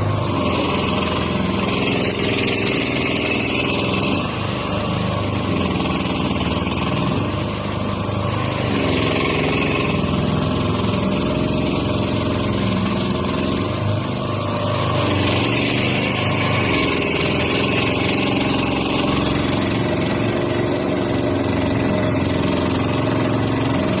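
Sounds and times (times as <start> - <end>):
boat motor running: 0.0 - 24.0.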